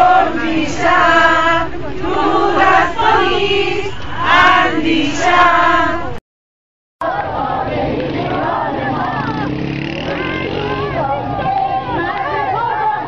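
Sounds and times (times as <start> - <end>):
crowd chanting in unison: 0.0 - 6.2, 7.0 - 13.0.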